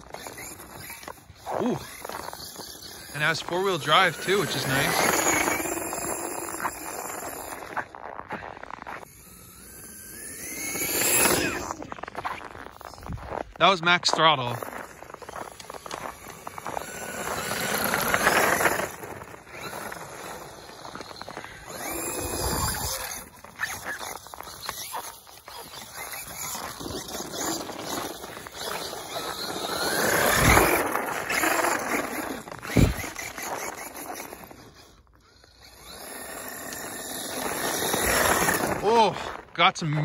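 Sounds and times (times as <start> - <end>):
electric motor whining: 0.0 - 13.5, 14.3 - 39.4
tyres spinning on snow: 0.0 - 40.0.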